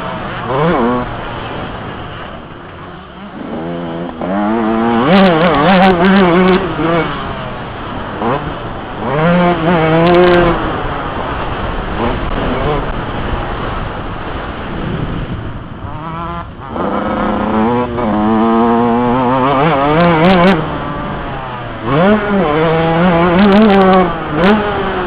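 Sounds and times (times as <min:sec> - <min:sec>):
two-stroke motocross engine revving: 0:00.0 - 0:25.0
wind noise: 0:00.0 - 0:25.0.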